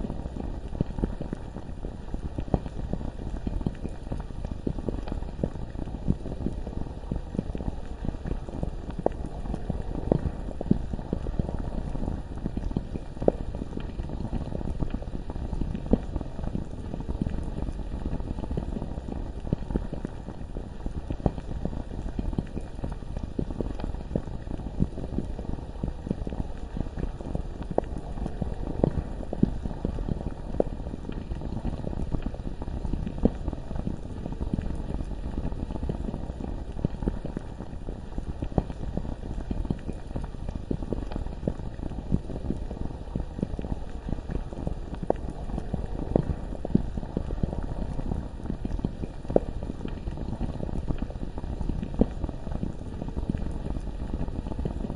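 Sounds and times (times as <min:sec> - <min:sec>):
lava bubbling: 0:00.0 - 0:54.9.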